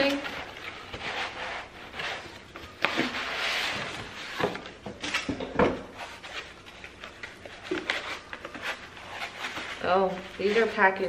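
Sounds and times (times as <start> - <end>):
packaging rustling and scraping: 0.0 - 11.0.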